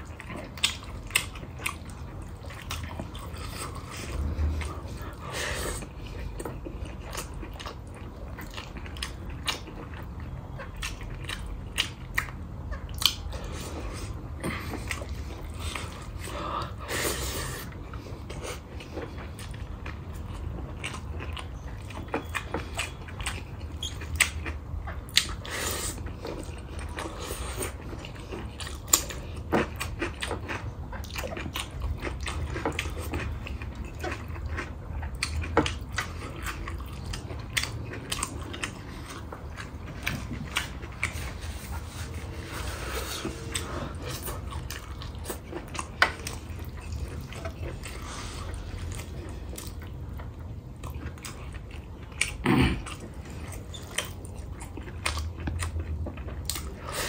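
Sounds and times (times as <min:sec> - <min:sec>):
chewing and biting food: 0:00.0 - 0:57.0
low steady hum: 0:00.0 - 0:57.0.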